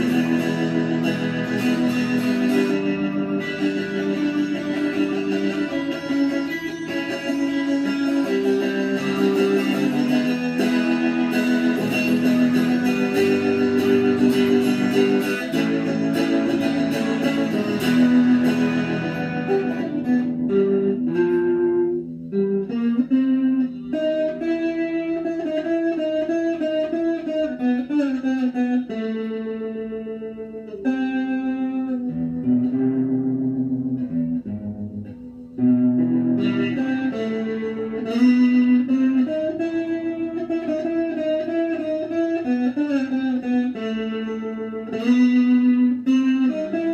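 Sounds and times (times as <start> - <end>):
electric guitar solo: 0.0 - 46.9.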